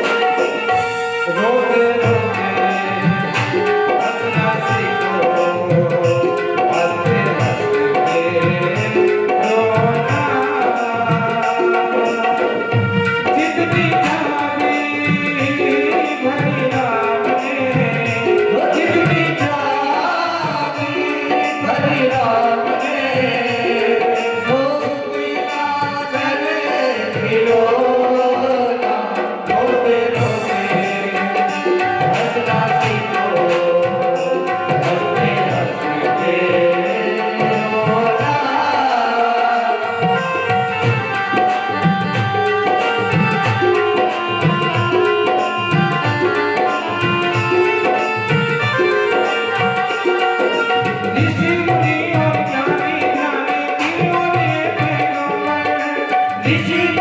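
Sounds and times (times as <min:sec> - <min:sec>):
sustained melodic accompaniment: 0:00.0 - 0:57.0
tabla rhythm: 0:00.0 - 0:57.0.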